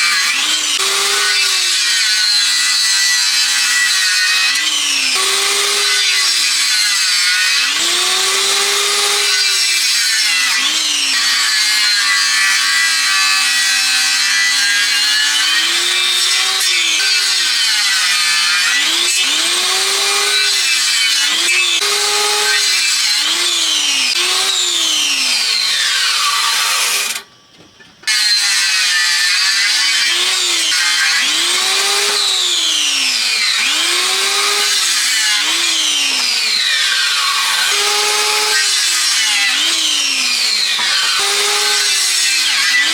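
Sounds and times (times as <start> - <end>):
hand saw cutting wood: 0.0 - 27.3, 28.1 - 42.9.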